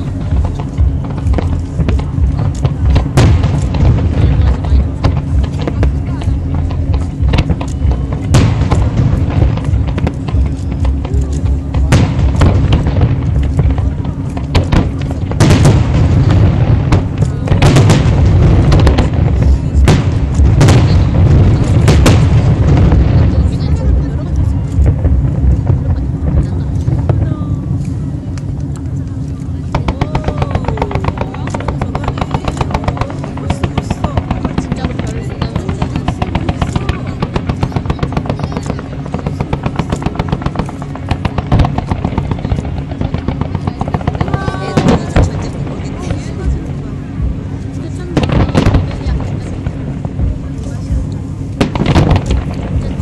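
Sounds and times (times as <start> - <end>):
firework shells cracking: 0.0 - 53.0
low rumble of booms: 0.0 - 53.0.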